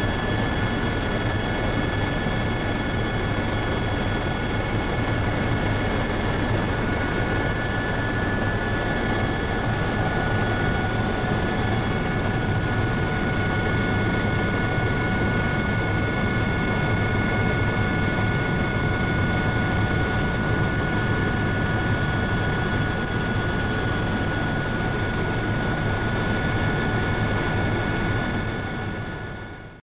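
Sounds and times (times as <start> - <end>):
helicopter rotor and engine drone: 0.0 - 29.8.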